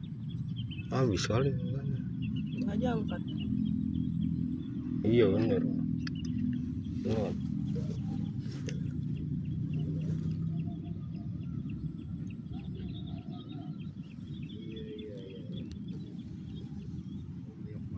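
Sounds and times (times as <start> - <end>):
small birds chirping: 0.0 - 17.9
steady low rumble: 0.0 - 17.9.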